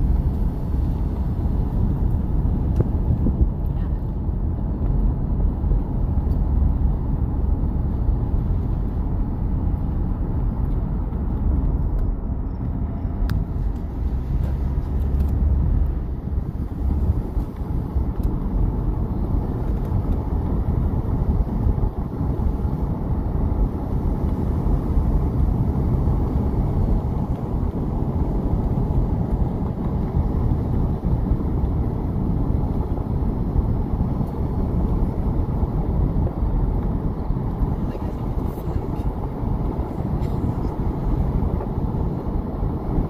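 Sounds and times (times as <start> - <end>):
car driving heard from inside: 0.0 - 43.0.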